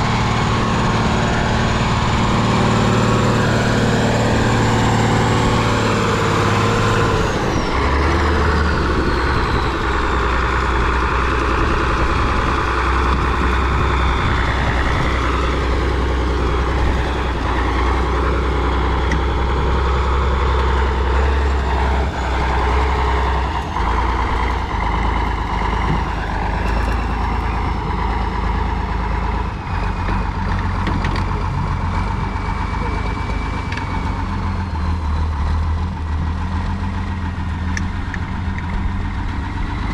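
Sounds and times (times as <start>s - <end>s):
truck diesel engine under load: 0.0s - 39.9s.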